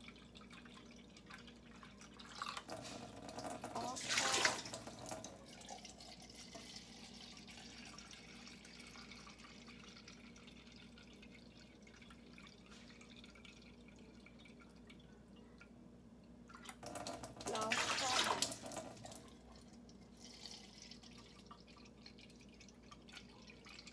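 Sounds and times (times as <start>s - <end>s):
tap water running into cup: 0.0s - 15.0s, 16.5s - 23.9s.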